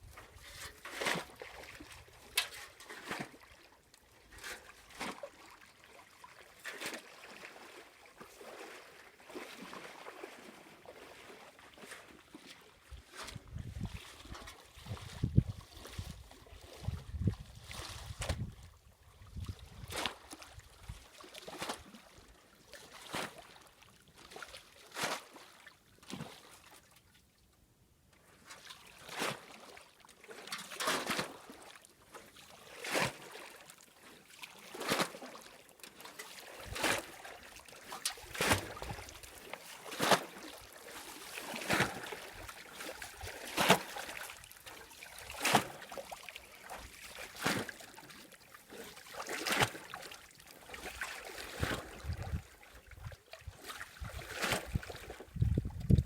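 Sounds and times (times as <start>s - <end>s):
water splashing and sloshing: 0.0s - 27.4s, 28.1s - 56.0s.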